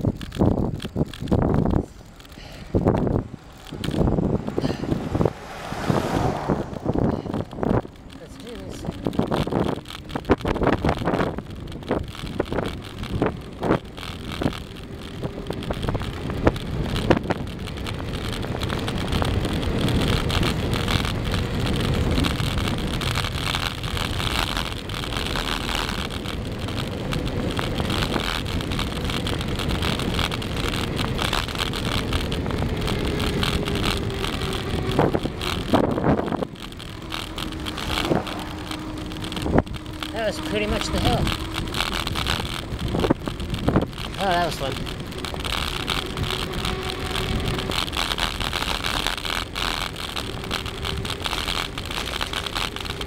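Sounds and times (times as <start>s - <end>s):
bike and camera rattling: 0.0s - 53.0s
wind rushing over microphone: 0.0s - 53.0s.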